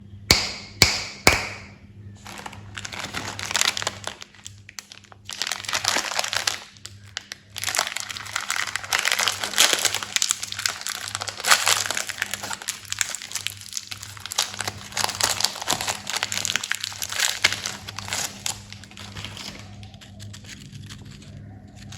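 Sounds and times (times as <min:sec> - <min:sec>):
plastic wrappers crinkling: 0:02.2 - 0:21.9.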